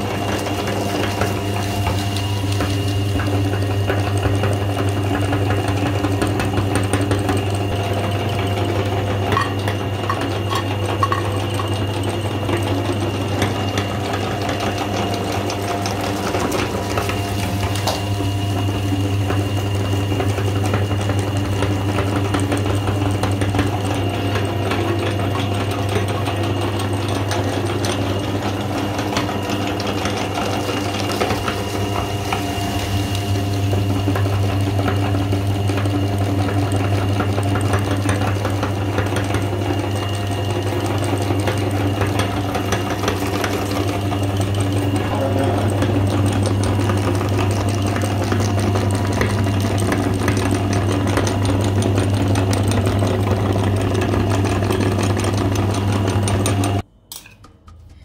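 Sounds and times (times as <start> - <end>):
sweets crunching in grinder: 0.0 - 56.9
meat grinder humming: 0.0 - 57.0.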